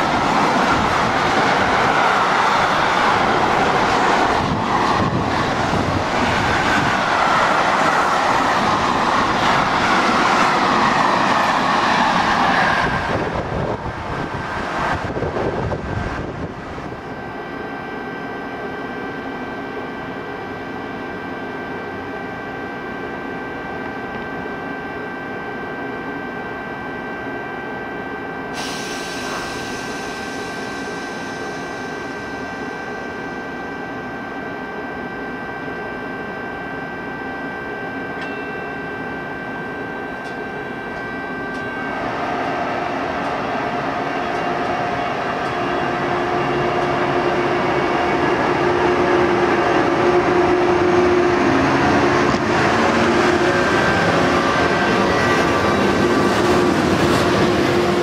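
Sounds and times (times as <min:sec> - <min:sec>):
electric train humming: 0:00.0 - 0:58.0
train pulling away: 0:00.0 - 0:58.0.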